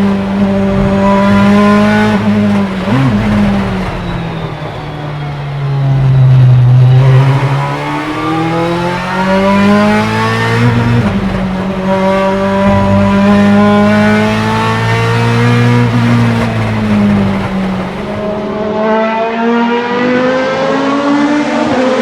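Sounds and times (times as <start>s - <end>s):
racing engine accelerating: 0.0s - 22.0s.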